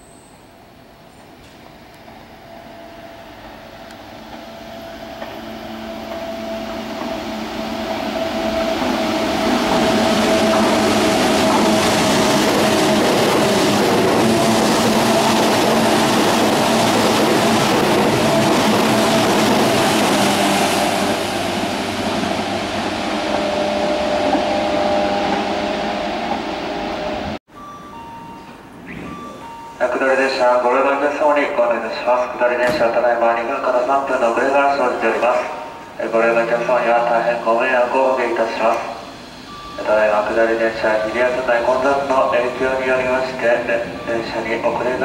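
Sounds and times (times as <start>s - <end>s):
train whine: 0.0s - 45.0s
electric train passing: 0.2s - 45.0s.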